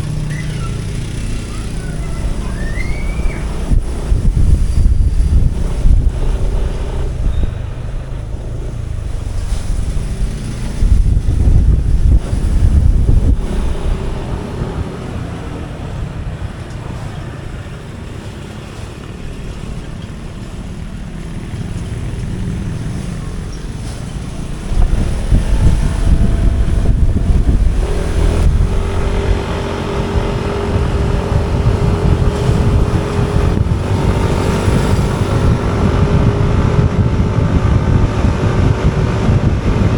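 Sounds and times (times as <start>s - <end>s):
motorbike engine hum: 0.0s - 39.9s
traffic noise: 0.0s - 39.9s
wind buffeting microphone: 0.0s - 39.9s.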